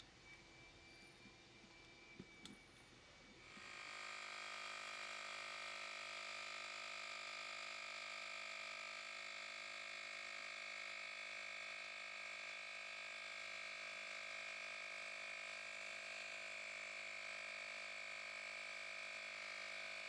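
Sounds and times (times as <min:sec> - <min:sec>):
air compressor running: 0:03.5 - 0:20.0.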